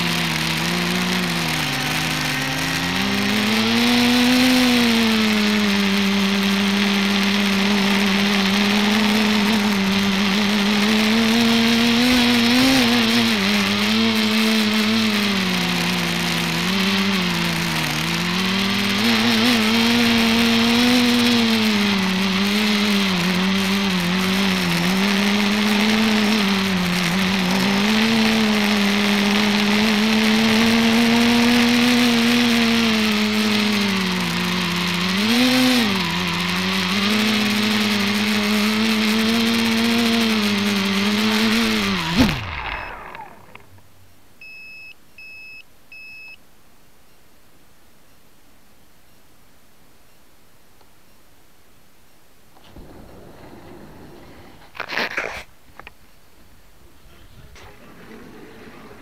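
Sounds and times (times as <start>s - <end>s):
drone propellers humming: 0.0s - 44.1s, 52.6s - 54.9s, 56.9s - 59.0s.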